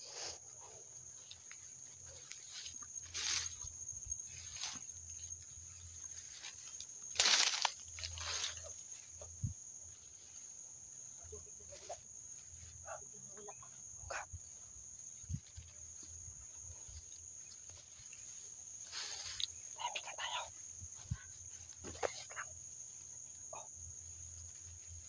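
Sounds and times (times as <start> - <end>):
rustling of ferns underfoot: 0.2 - 12.8, 14.5 - 25.0.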